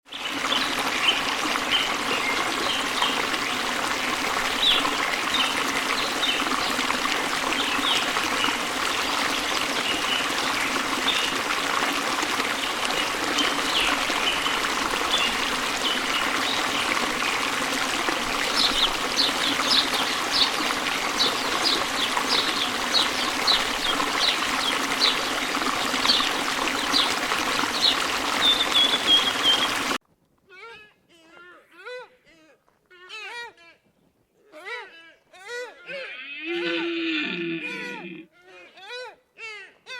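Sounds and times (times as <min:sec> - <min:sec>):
stream trickling: 0:00.0 - 0:30.0, 0:36.0 - 0:38.3.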